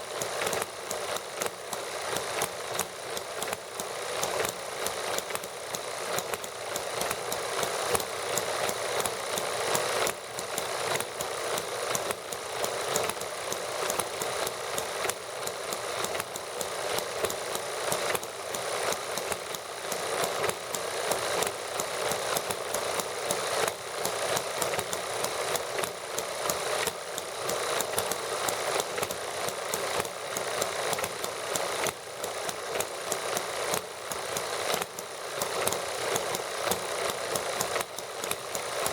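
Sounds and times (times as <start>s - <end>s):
small model gasoline engines running: 0.0s - 38.9s.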